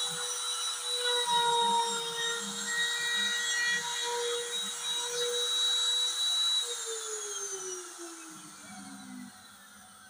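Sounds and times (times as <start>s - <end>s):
router spindle whining: 0.0s - 10.0s.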